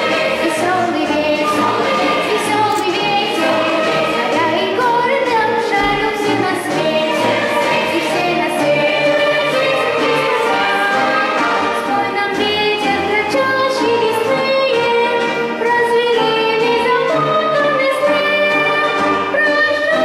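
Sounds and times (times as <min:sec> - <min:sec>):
orchestra with folk string instruments: 0:00.0 - 0:20.0.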